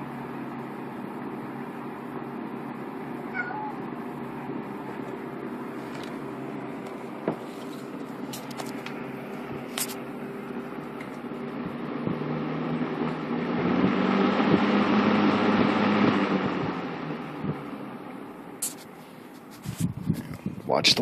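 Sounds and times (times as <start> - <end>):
box fan humming: 0.0 - 21.0.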